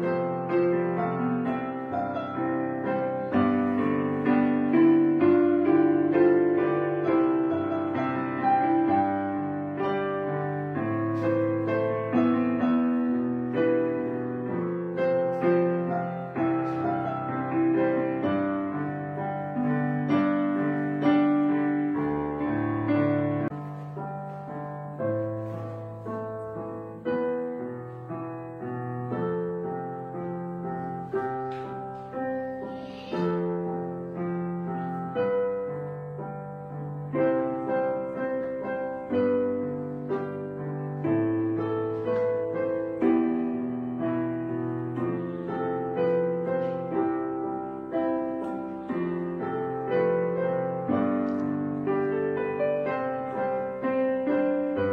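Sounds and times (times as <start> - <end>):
gentle slow piano piece: 0.0 - 54.9.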